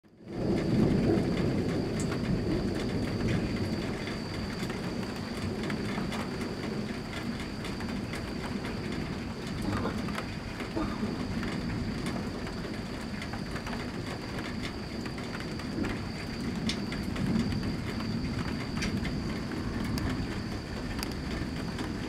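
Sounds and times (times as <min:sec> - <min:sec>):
rain pattering: 0:00.0 - 0:22.0
thunder rumbling: 0:00.1 - 0:22.0.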